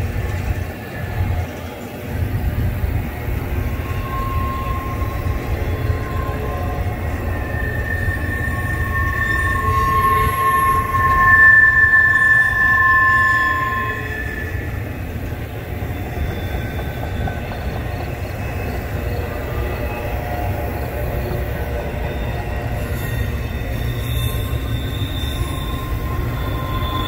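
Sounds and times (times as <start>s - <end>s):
freight train rumbling on rails: 0.0s - 27.0s
high wheel squeal: 0.2s - 27.0s.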